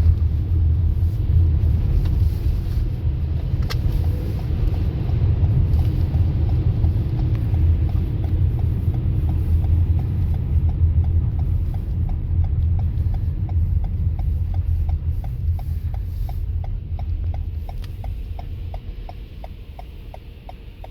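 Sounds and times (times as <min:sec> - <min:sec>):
car engine rumble: 0:00.0 - 0:20.9
turn signal ticking: 0:00.0 - 0:20.9.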